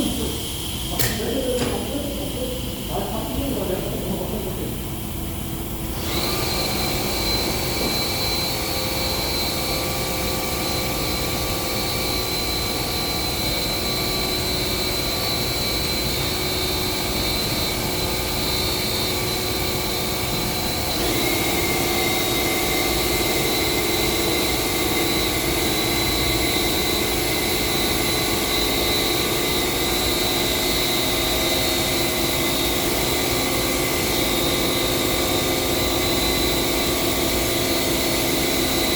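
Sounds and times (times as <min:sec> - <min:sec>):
machine motor whining: 0:00.0 - 0:38.9.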